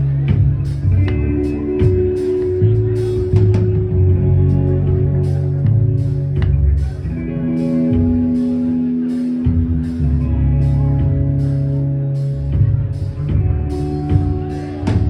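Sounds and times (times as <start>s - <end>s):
bass guitar: 0.0s - 15.0s
electric guitar: 0.0s - 15.0s
steady drum beat: 0.0s - 15.0s.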